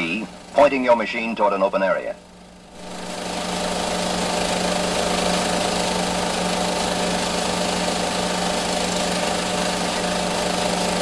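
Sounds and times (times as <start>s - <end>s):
snowmobile engine idling: 0.0s - 11.0s.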